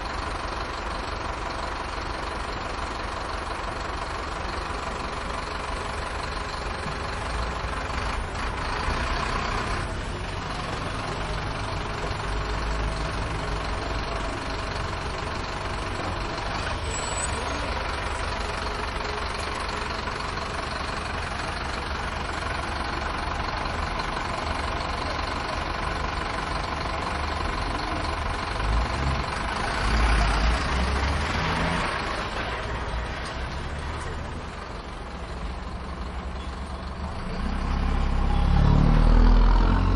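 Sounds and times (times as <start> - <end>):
bus engines idling: 0.0 - 39.9
traffic noise: 0.0 - 39.9.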